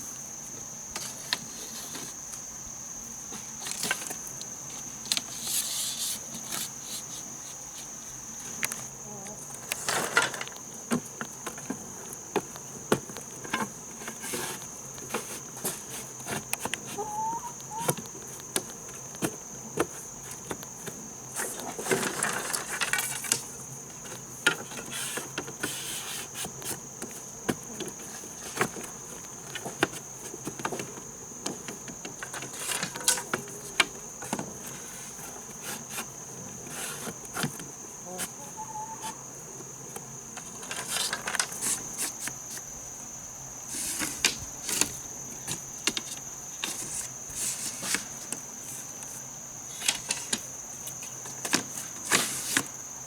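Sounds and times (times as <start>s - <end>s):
crickets droning: 0.0s - 53.0s.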